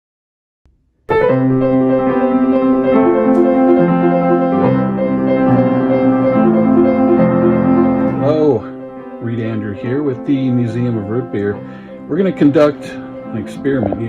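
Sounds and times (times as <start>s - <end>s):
keyboard chords: 1.1s - 14.0s.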